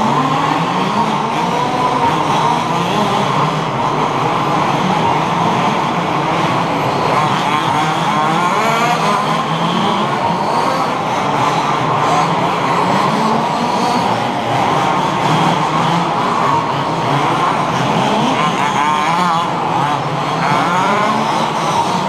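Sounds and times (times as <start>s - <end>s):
small two-stroke engines whining: 0.0s - 22.0s.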